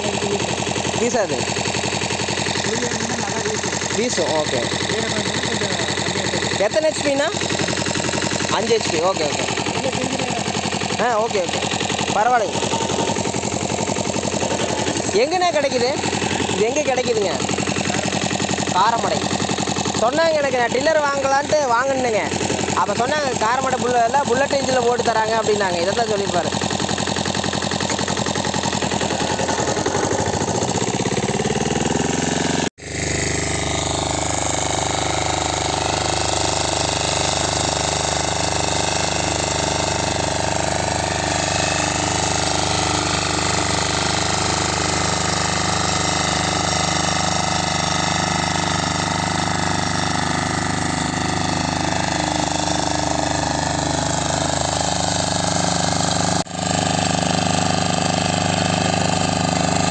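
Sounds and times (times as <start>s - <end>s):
tiller engine running: 0.0s - 59.9s.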